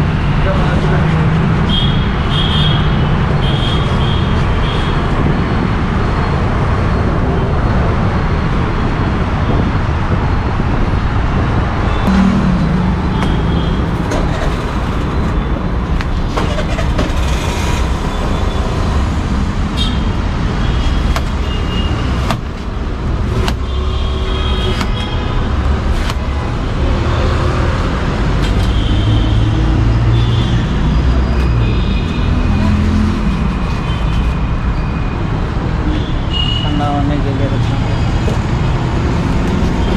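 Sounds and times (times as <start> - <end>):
street traffic noise: 0.0 - 39.9.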